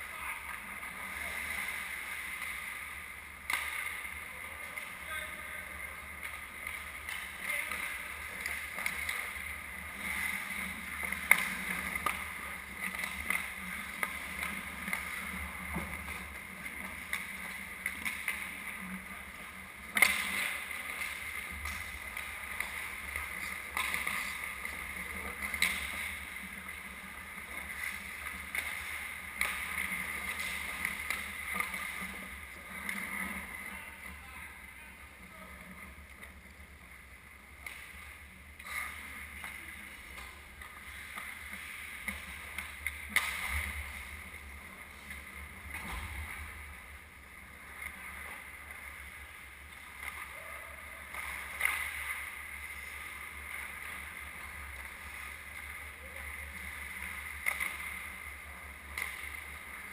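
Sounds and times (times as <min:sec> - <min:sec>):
hockey sticks and puck clacking: 0:00.0 - 0:59.9
skate blades scraping ice: 0:00.0 - 0:59.9.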